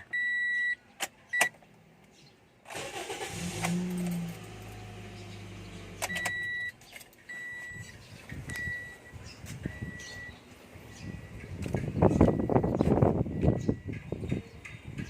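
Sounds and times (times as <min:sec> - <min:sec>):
car engine starting and idling: 0:00.0 - 0:14.0.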